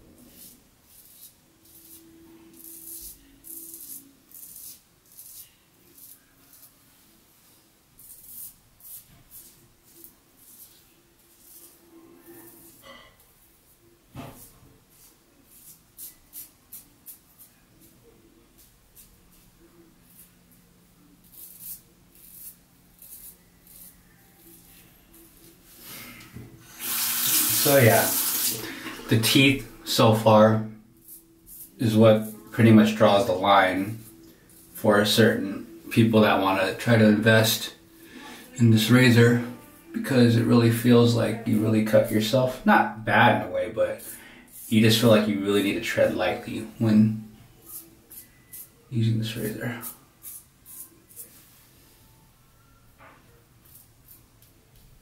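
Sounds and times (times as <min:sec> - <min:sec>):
razor scraping stubble: 0:00.3 - 0:06.7, 0:08.0 - 0:13.1, 0:14.2 - 0:17.9, 0:21.2 - 0:30.4, 0:31.0 - 0:37.8, 0:38.5 - 0:51.4.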